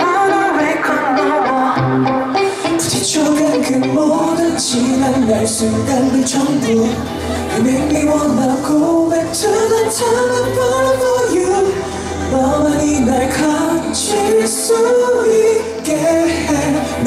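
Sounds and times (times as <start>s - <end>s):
man singing pop song: 0.0s - 17.0s
pop backing track: 0.0s - 17.0s.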